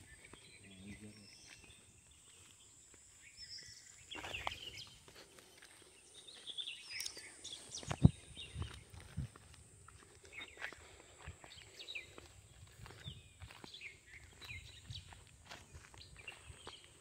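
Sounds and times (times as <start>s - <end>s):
footsteps through dry grass: 0.0s - 17.0s.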